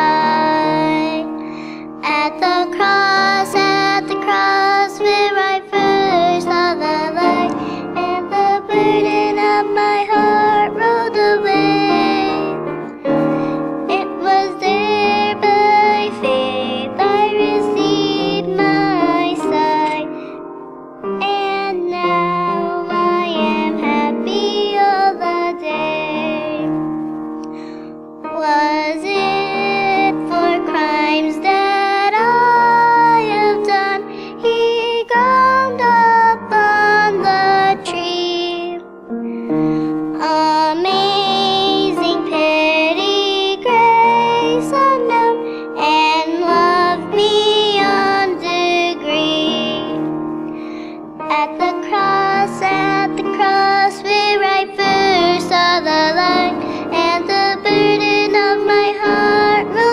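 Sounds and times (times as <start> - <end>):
girl singing: 0.0 - 26.9, 27.6 - 59.9
grand piano: 0.0 - 59.9.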